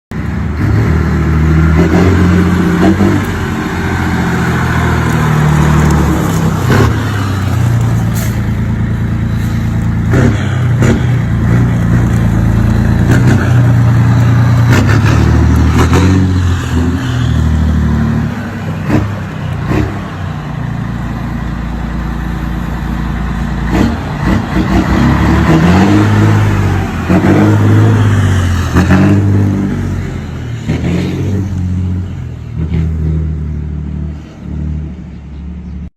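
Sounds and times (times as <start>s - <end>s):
diesel truck engine revving: 0.1s - 35.9s.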